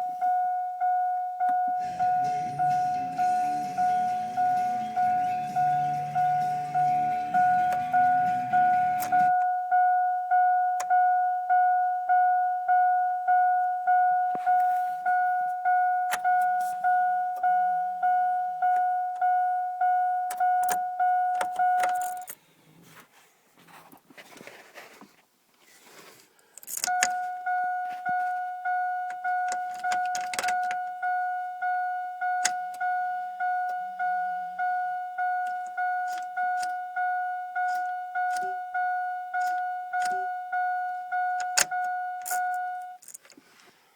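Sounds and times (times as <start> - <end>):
car warning chime dinging: 0.0 - 22.4, 26.7 - 43.2.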